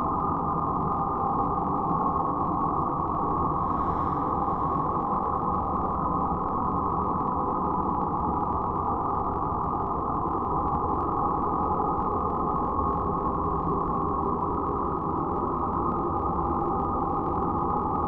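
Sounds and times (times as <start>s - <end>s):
dark ambient noise drone: 0.0s - 18.0s.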